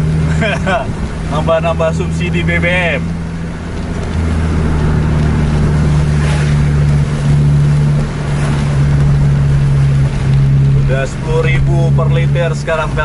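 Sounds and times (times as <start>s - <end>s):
car engine drone: 0.0s - 13.0s
tyres hissing on wet road: 0.0s - 13.0s.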